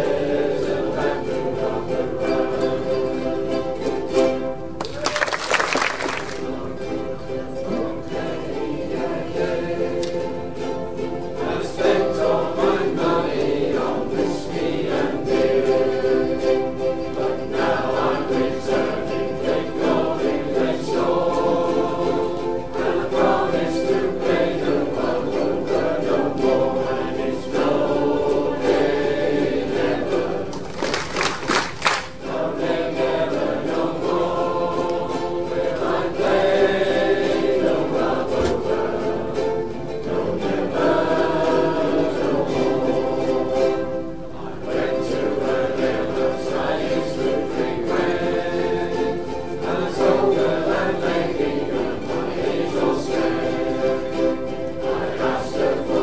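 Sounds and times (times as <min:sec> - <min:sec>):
group singing in chorus: 0:00.0 - 0:04.6, 0:05.6 - 0:56.0
ukulele ensemble strumming: 0:00.0 - 0:56.0.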